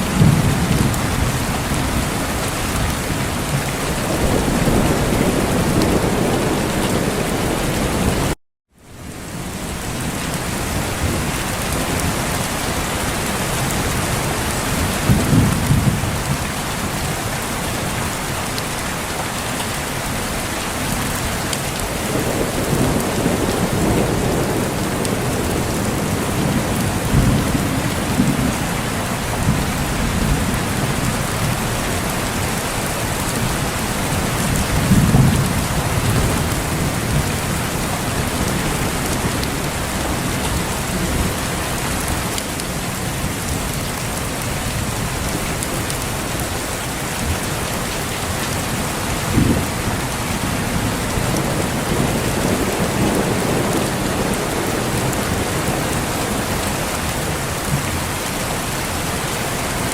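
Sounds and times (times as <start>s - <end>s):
thunder rumbling: 0.0s - 8.4s, 9.3s - 17.7s, 21.0s - 46.4s, 48.0s - 59.1s
heavy rain: 0.0s - 59.9s.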